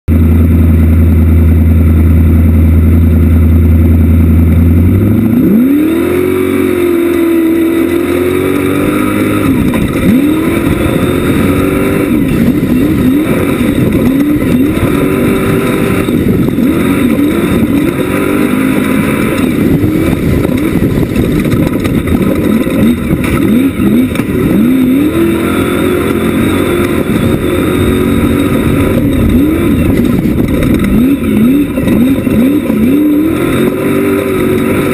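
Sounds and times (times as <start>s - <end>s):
buggy engine revving: 0.1s - 34.9s.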